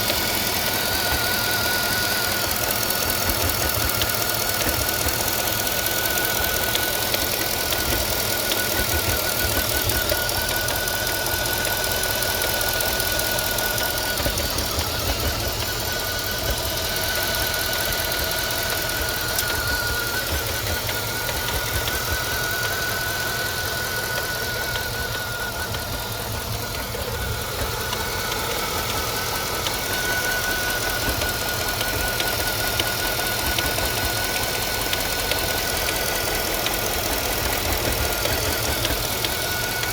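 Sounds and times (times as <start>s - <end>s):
car engine running: 0.0s - 39.9s
irregular engine rattle: 0.0s - 39.9s.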